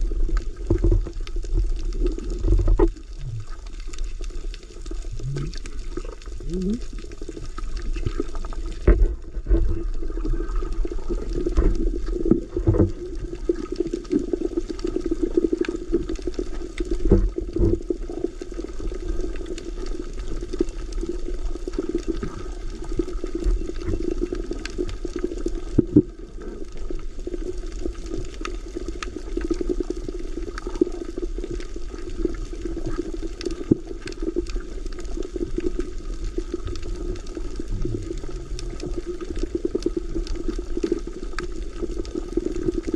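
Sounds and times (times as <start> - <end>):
clicks and crackles: 0.0 - 42.9
muffled underwater water rush: 0.0 - 42.9.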